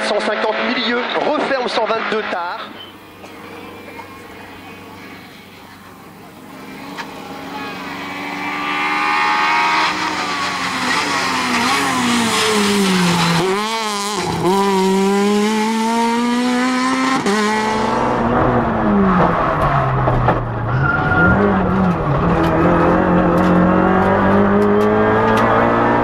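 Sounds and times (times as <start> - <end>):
rally car engine at full throttle: 0.0 - 26.0.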